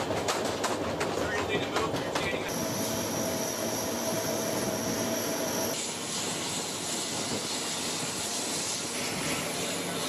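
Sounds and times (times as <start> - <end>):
plane engine rushing with whine: 0.0 - 10.0.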